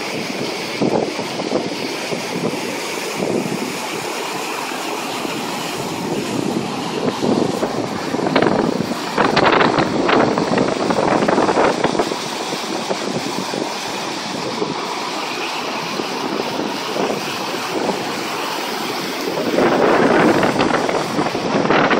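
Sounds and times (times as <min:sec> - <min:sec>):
floodwater rushing: 0:00.0 - 0:21.9
wind buffeting microphone: 0:00.0 - 0:21.9.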